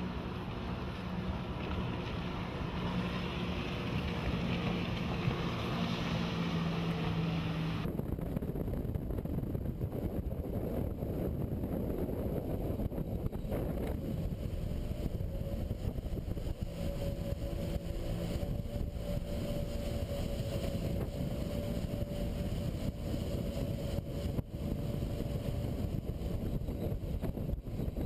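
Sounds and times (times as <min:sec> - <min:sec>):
boat engines rumbling: 0:00.0 - 0:28.0
steady whine: 0:00.0 - 0:28.0
wind on microphone: 0:00.0 - 0:28.0.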